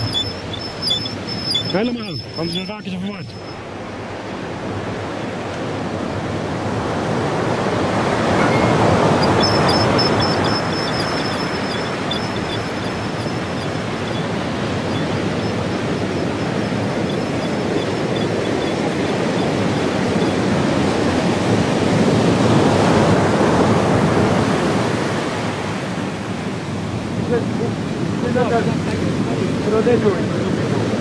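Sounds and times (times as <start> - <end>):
wind on microphone: 0.0 - 28.3
ocean surf breaking on beach: 0.0 - 31.0.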